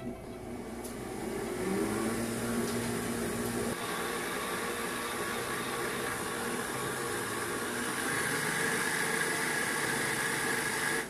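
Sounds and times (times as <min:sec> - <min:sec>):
stand mixer running: 0:00.0 - 0:11.0.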